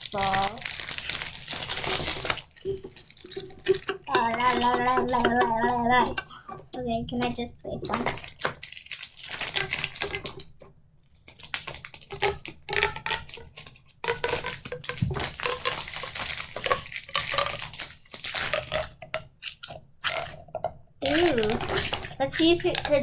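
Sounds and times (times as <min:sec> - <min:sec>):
plastic packaging crinkling: 0:00.0 - 0:10.7, 0:11.3 - 0:23.0.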